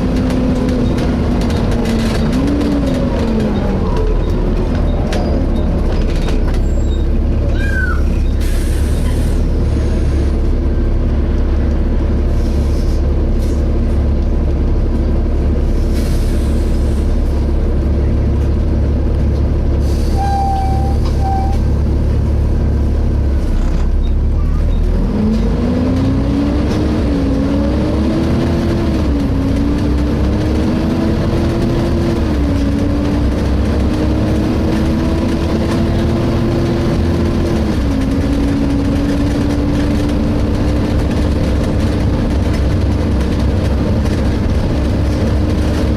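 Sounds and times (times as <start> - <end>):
bus diesel engine rumbling: 0.0 - 45.9.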